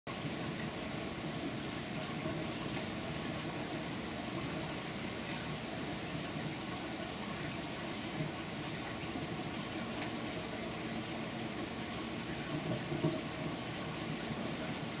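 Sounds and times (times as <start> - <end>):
running water trickling: 0.1 - 15.0.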